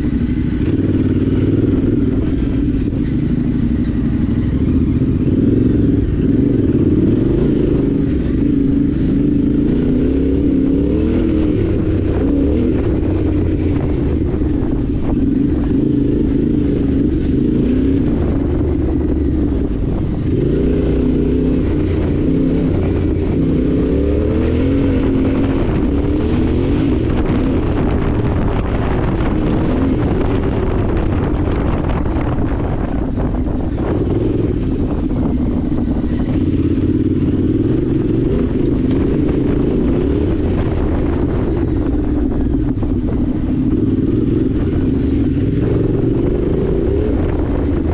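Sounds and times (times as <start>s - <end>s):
motorcycle engine running: 0.0s - 47.9s
steady rushing noise: 0.0s - 47.9s.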